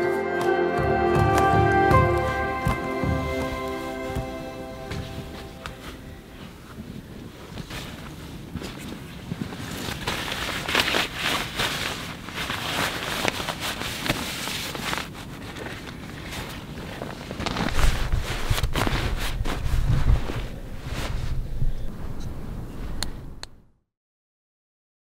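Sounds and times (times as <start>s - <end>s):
nylon sleeping bags rustling: 0.0s - 22.1s.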